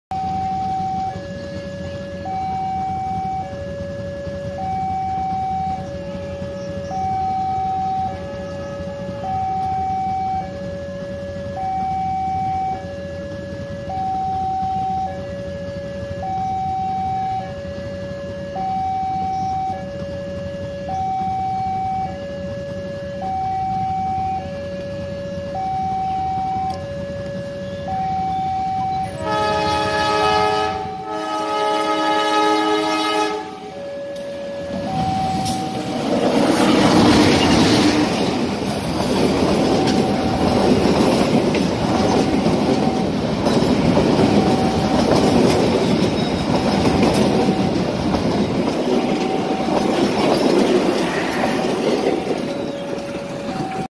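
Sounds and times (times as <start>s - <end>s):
level-crossing alarm two tones: 0.1s - 53.9s
train wheels rushing on rails: 0.2s - 53.9s
train horn blasts: 0.4s - 39.0s, 48.4s - 53.9s.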